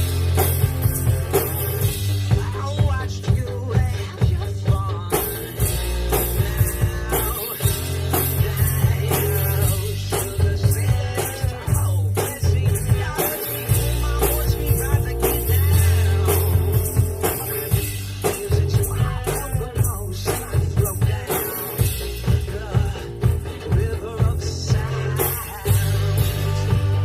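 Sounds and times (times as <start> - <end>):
rock music: 0.0 - 27.0
steady drum beat: 0.0 - 27.0.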